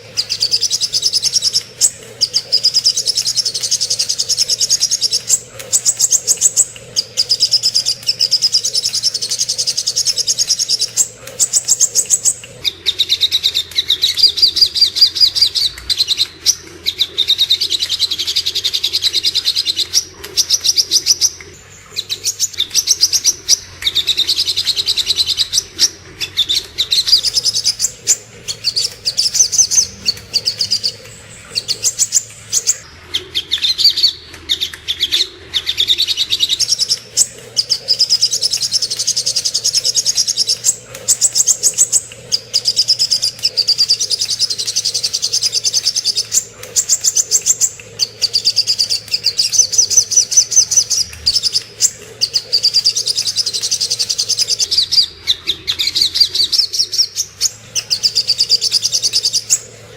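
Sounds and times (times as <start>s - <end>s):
bird singing rapid high chirps: 0.0s - 32.9s, 35.7s - 59.8s.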